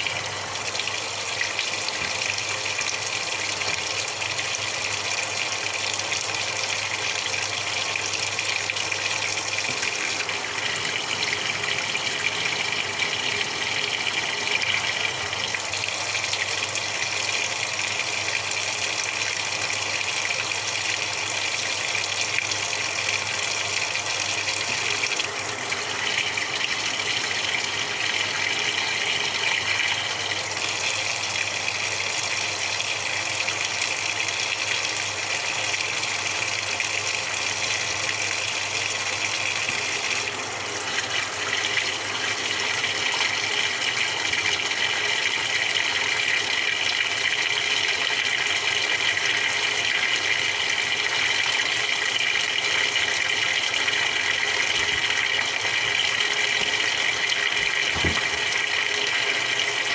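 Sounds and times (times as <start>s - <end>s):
washing machine water rushing: 0.0s - 59.9s.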